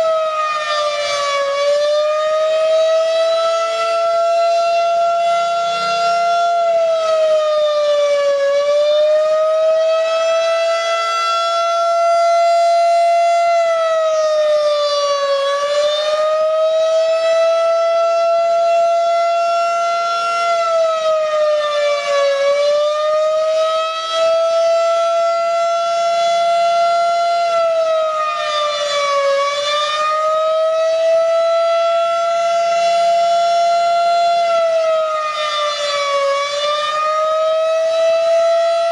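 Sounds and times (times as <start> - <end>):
electronic warning siren: 0.0 - 38.9.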